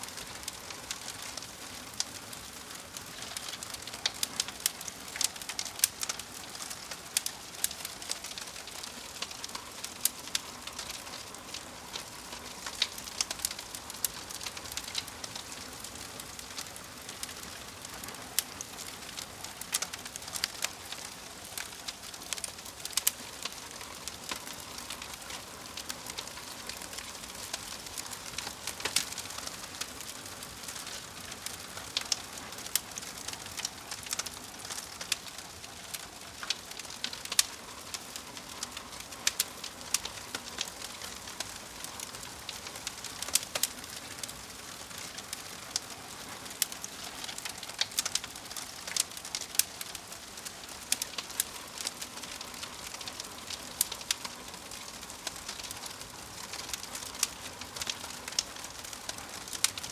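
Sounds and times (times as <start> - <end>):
wood fire crackling and popping: 0.0 - 59.9
fire hissing: 0.1 - 59.8.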